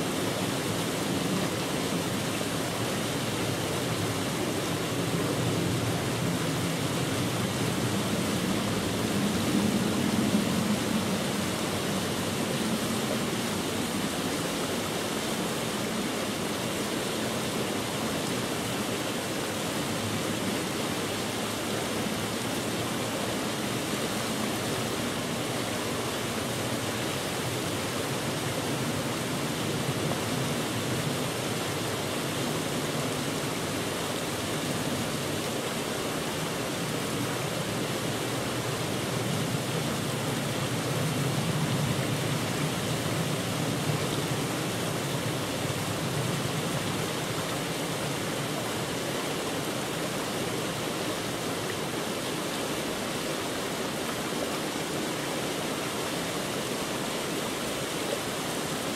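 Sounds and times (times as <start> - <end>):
steady rushing noise: 0.0 - 58.9.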